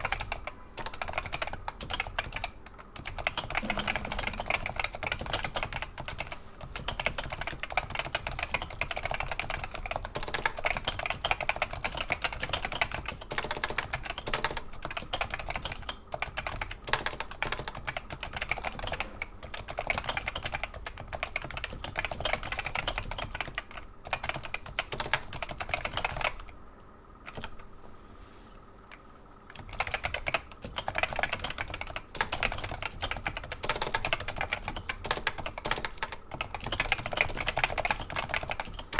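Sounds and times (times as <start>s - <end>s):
fast keyboard typing: 0.0s - 26.6s, 27.2s - 27.7s, 29.5s - 38.9s.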